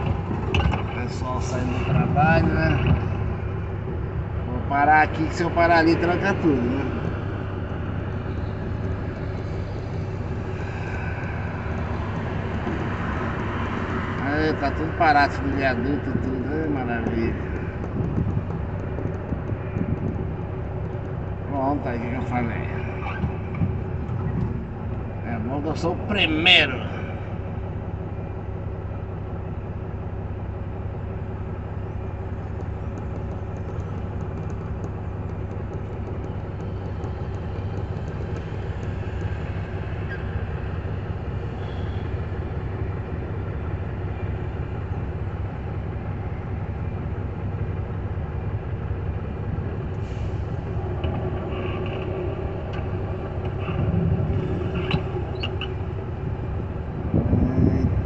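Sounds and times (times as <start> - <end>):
passing traffic: 0.0 - 58.0
vehicle engine idling: 0.0 - 58.0.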